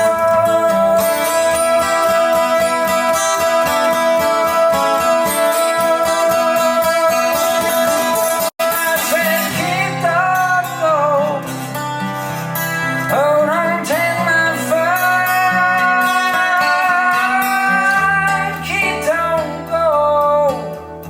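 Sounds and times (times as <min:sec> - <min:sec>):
guitar song through speaker: 0:00.0 - 0:21.0.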